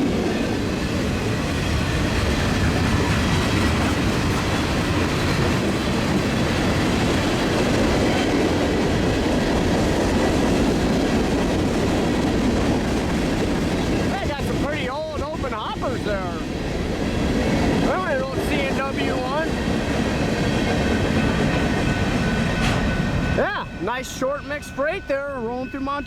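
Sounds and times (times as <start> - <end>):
freight train rolling past: 0.0 - 26.0.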